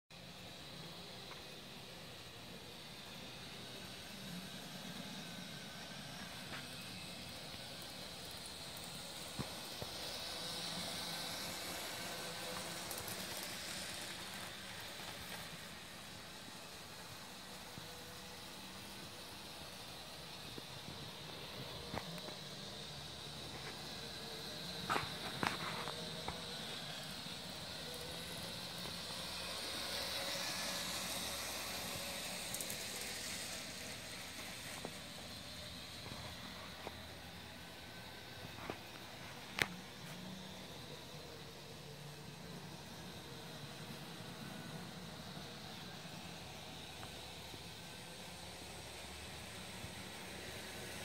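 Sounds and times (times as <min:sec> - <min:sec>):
model train motor whir: 0:00.2 - 0:51.0.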